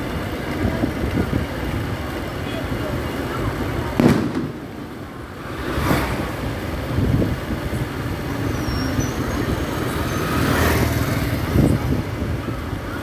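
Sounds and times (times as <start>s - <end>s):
scooters passing: 0.0s - 13.0s
street traffic: 0.0s - 13.0s.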